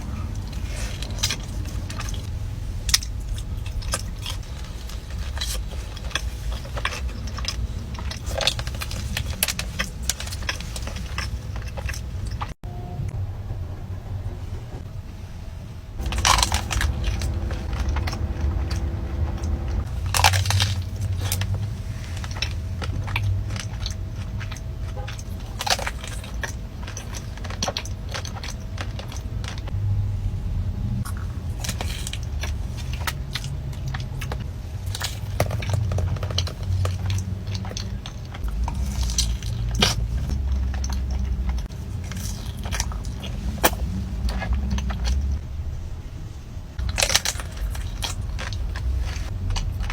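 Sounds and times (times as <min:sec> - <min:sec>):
pastry crunched and chewed: 0:00.0 - 0:12.6, 0:16.0 - 0:29.7, 0:31.0 - 0:45.4, 0:46.8 - 0:49.9
steady low rumble: 0:00.0 - 0:49.9.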